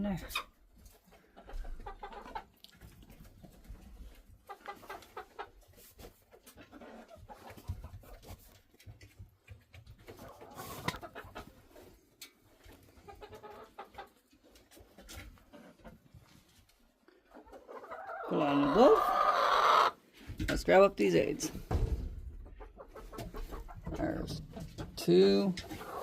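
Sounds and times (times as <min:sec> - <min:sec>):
hens clucking: 0:00.1 - 0:26.0.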